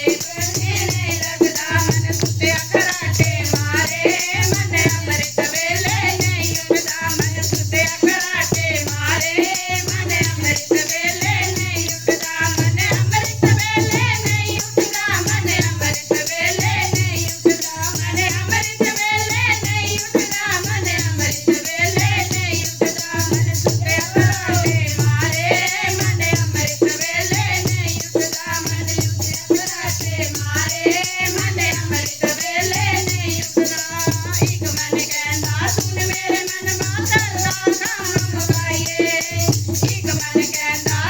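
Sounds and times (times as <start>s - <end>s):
jingling rattle percussion: 0.0s - 41.0s
pulsing drum beat: 0.0s - 41.0s.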